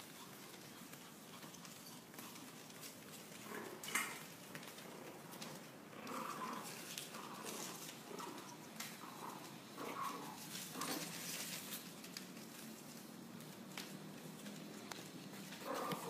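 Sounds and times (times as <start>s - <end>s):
paws scratching on newspaper: 0.0s - 16.0s.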